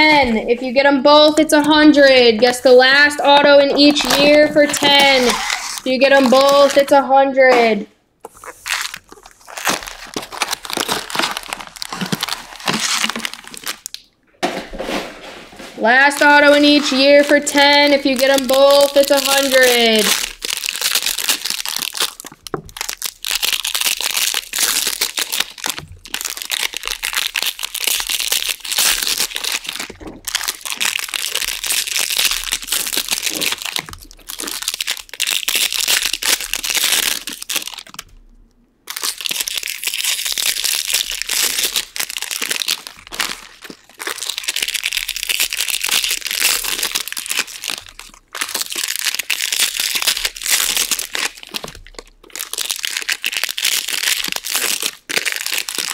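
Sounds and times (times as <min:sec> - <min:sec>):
foil wrappers tearing and crinkling: 0:03.4 - 0:06.9, 0:08.2 - 0:14.0, 0:14.8 - 0:38.1, 0:38.9 - 0:55.9.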